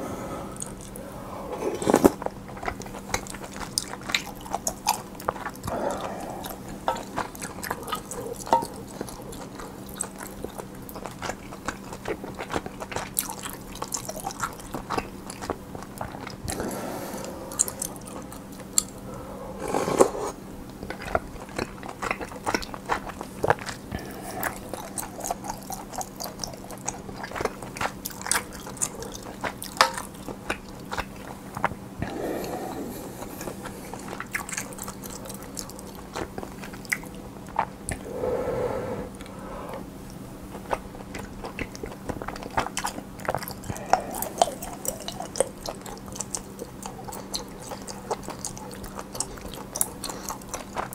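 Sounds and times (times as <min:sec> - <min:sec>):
faint steady hum: 0:00.0 - 0:50.9
chewing with wet mouth clicks: 0:00.6 - 0:01.0, 0:01.9 - 0:19.0, 0:20.6 - 0:38.1, 0:40.0 - 0:50.9.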